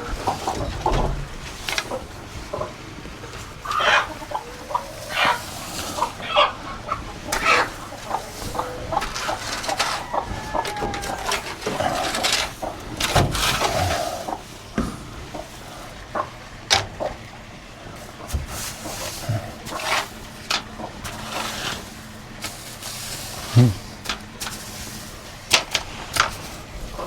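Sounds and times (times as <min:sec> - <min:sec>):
chickens clucking and squawking: 0:00.0 - 0:27.0.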